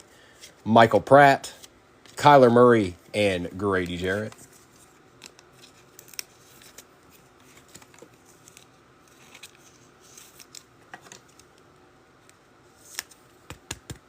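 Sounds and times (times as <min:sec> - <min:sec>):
trading cards clicking and rustling: 0:01.5 - 0:11.6, 0:12.2 - 0:14.0.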